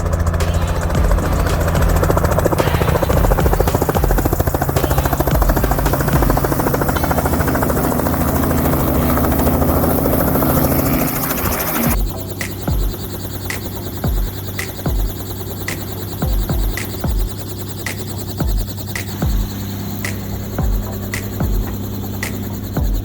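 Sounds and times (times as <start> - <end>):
helicopter rotor beating: 0.0 - 23.0.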